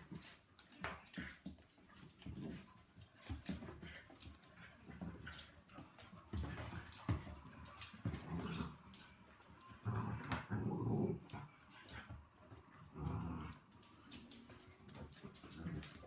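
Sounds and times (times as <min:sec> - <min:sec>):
dogs play-growling: 0:00.0 - 0:16.0
claws clicking on wooden floor: 0:00.1 - 0:16.0.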